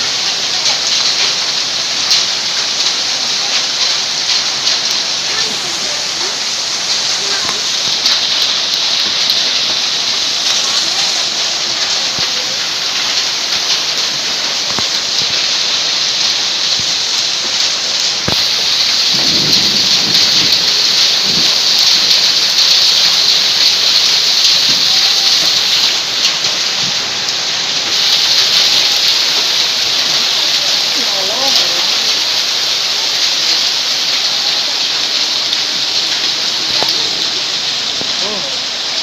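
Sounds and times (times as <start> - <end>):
hailstones clicking: 0.0 - 39.0
heavy rain hissing: 0.0 - 39.0.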